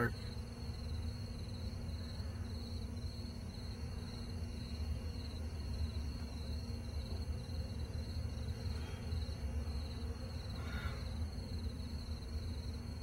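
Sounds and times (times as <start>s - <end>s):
crickets chirping: 0.0s - 13.0s
low background rumble: 0.0s - 13.0s.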